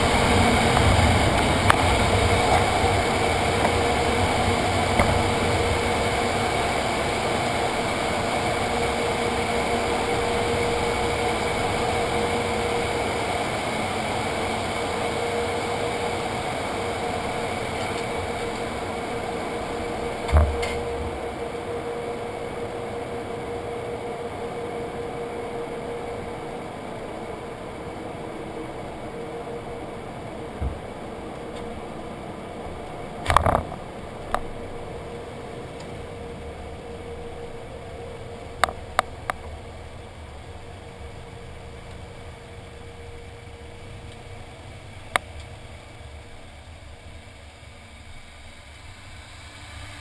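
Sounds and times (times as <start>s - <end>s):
car wash machinery whirring: 0.0s - 50.0s.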